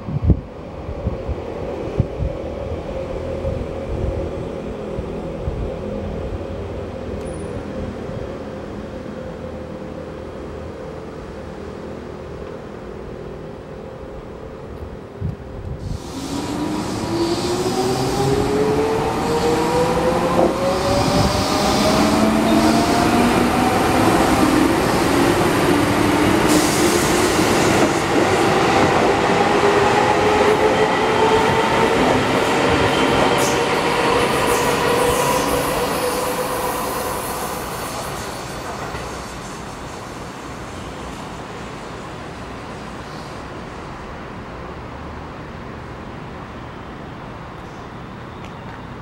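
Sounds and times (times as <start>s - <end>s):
rail and wheel noise: 0.0s - 49.0s.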